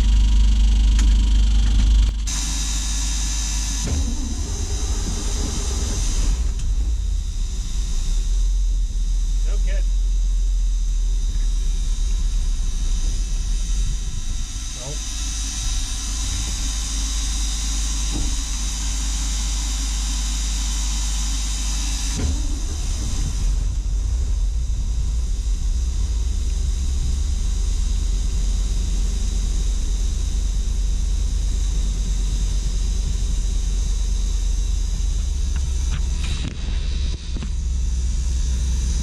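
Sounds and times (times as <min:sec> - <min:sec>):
truck engine rumbling: 0:00.0 - 0:39.0.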